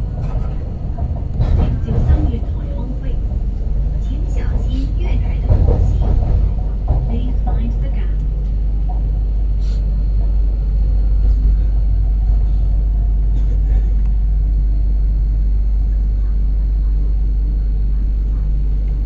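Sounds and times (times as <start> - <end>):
metro train rumbling: 0.0 - 19.0.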